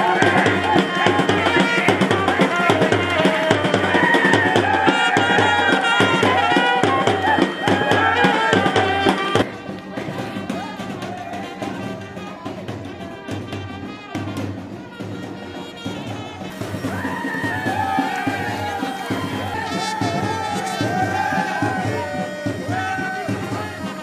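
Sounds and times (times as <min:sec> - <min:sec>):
dance music with brass melody: 0:00.0 - 0:24.0.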